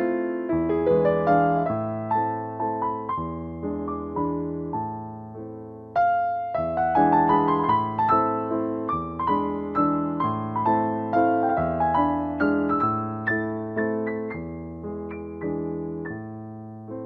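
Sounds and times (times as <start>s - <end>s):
soft piano melody: 0.0s - 17.0s.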